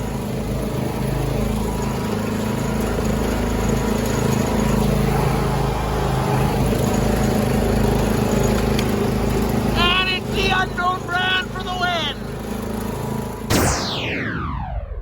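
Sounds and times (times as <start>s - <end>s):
lawn tractor engine running: 0.0s - 13.5s.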